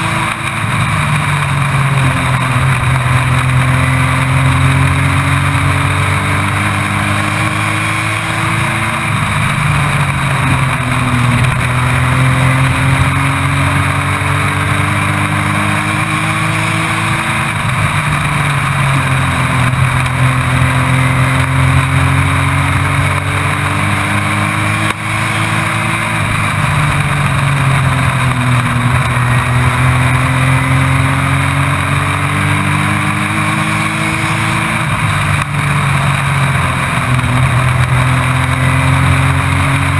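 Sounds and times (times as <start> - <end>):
race truck engine at full throttle: 0.0 - 39.9
wind and road noise: 0.0 - 39.9.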